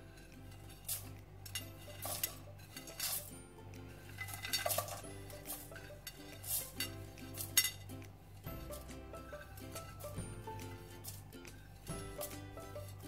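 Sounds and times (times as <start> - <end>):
background music: 0.0 - 13.0
spices clattering into a pan: 0.2 - 3.3, 4.0 - 13.0.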